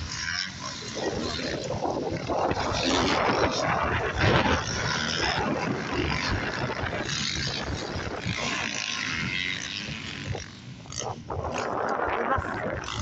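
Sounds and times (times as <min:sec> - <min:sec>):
dirt bike engines at full throttle: 0:00.0 - 0:13.0.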